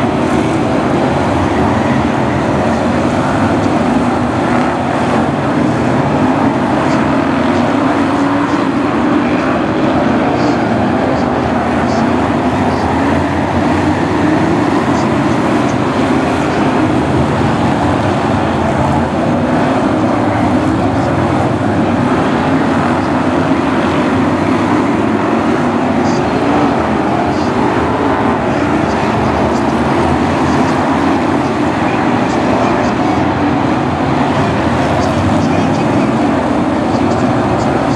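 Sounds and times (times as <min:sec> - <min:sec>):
racing car engines droning: 0:00.0 - 0:37.9.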